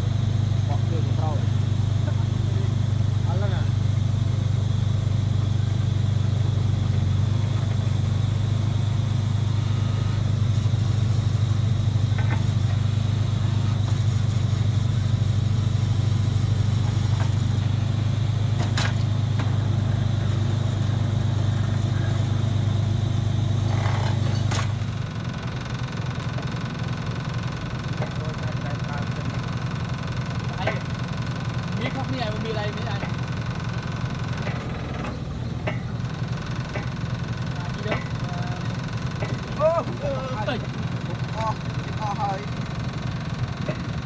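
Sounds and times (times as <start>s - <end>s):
low engine drone: 0.0s - 44.0s.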